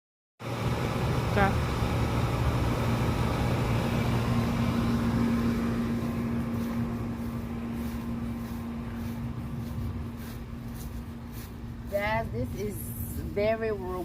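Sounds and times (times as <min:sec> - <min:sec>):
low mechanical rumble with hum: 0:00.4 - 0:14.0.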